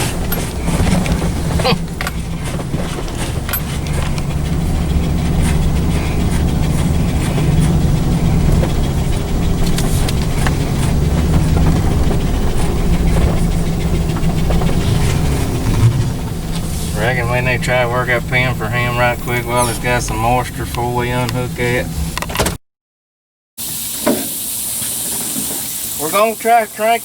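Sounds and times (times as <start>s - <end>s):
vehicle engine running: 0.0s - 22.5s.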